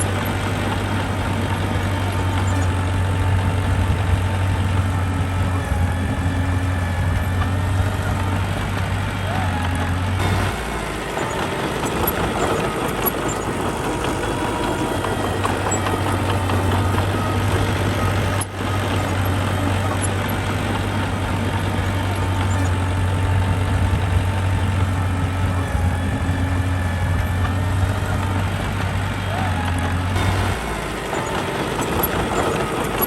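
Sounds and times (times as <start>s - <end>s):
heavy machine engine running: 0.0s - 33.0s.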